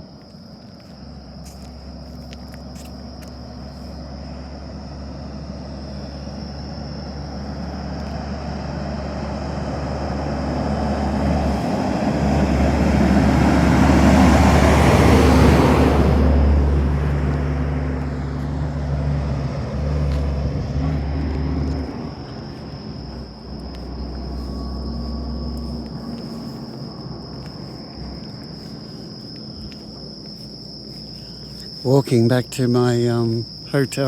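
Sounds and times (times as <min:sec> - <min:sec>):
truck engine and road noise: 0:00.0 - 0:34.0.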